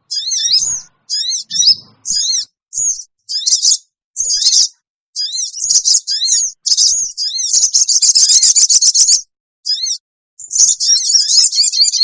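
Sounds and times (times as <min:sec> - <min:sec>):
sunbird chirps and trills: 0:00.0 - 0:12.0.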